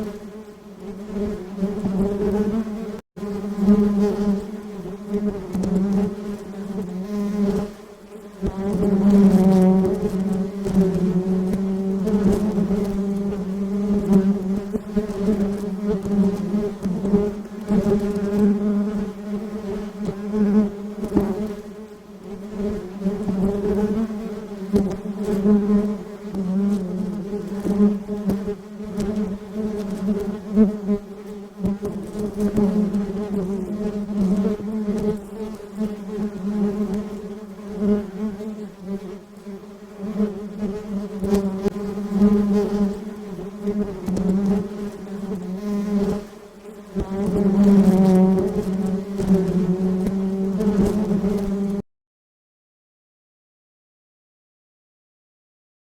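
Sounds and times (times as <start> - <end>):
honeybees buzzing: 0.0 - 51.8.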